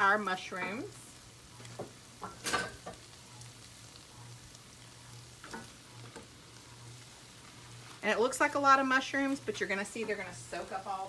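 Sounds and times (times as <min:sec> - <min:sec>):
low steady hum: 0:00.0 - 0:11.0
vegetables sizzling in pot: 0:00.0 - 0:11.0.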